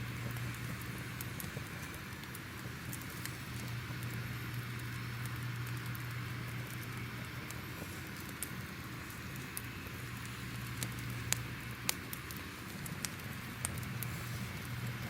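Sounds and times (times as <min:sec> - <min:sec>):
crackling fire: 0:00.0 - 0:15.0.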